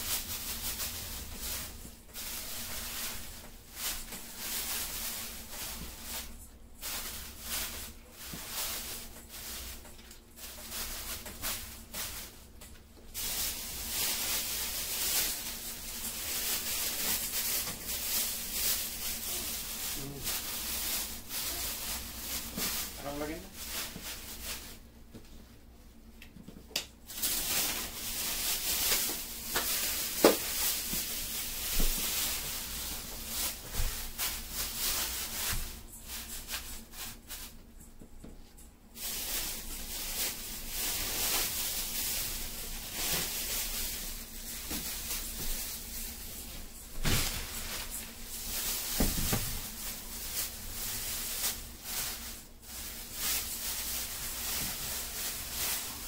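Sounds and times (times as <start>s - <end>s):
plastic bags rustling: 0.0s - 26.1s, 26.9s - 56.0s.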